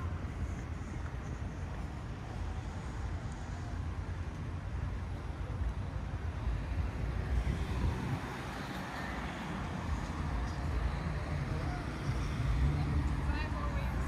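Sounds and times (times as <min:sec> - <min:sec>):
cars going by: 0:00.0 - 0:14.0.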